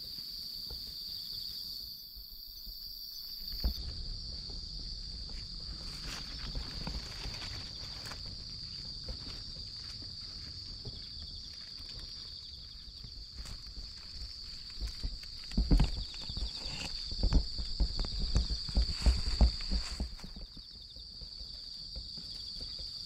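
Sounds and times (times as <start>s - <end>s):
crickets chirring: 0.0s - 23.0s
soft low knocks and crunches: 2.2s - 23.0s.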